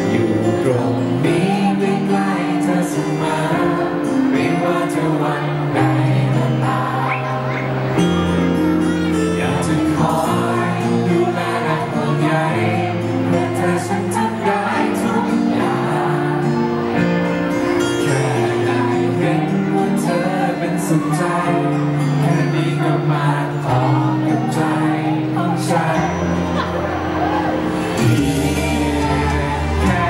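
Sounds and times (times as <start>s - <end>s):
man singing into microphone: 0.0s - 7.5s, 9.0s - 16.8s, 17.8s - 26.8s, 28.0s - 30.0s.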